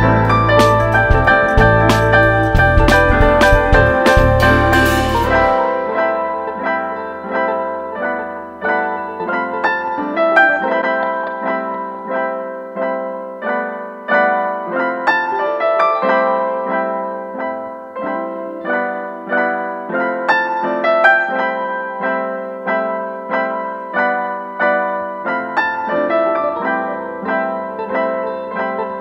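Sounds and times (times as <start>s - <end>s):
background piano music: 0.0s - 29.0s.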